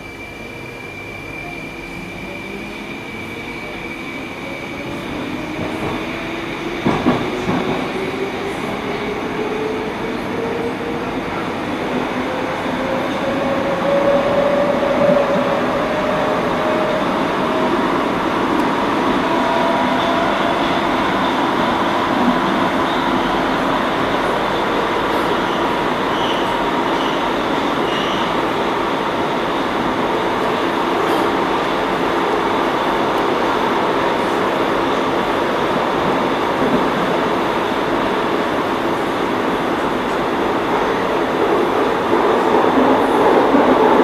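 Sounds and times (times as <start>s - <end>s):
metro traction motor whine: 0.0s - 44.0s.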